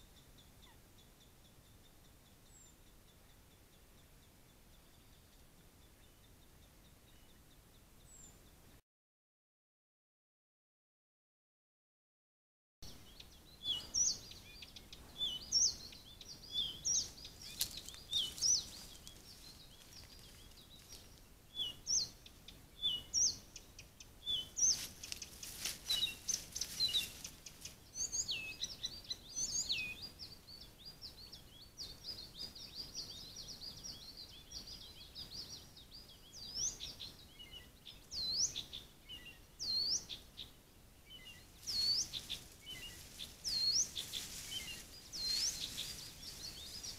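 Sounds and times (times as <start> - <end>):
songbirds chirping: 0.0 - 8.8, 12.8 - 46.9.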